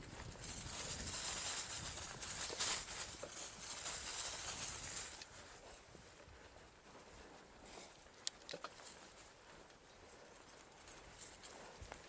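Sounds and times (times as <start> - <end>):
bike tyres crunching on dirt: 0.0 - 12.0.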